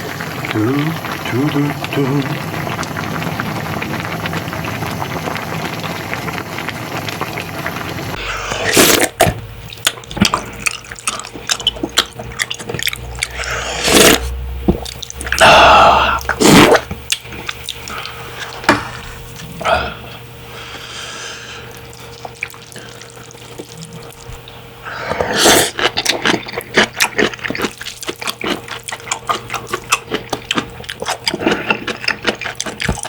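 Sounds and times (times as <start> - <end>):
pot bubbling: 0.0 - 33.0.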